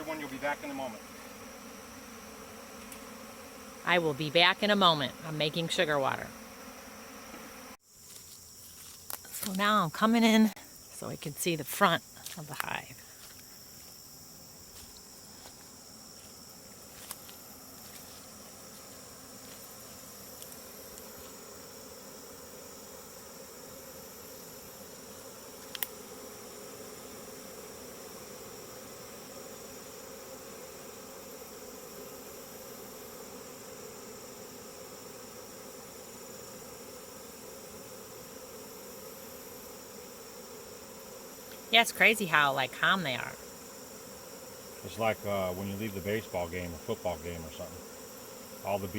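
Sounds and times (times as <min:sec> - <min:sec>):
bee swarm humming: 0:00.0 - 0:48.9.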